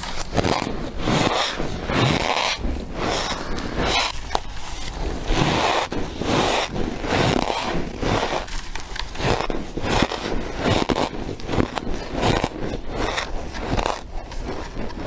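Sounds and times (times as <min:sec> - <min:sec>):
frost being chewed: 0:00.0 - 0:15.0.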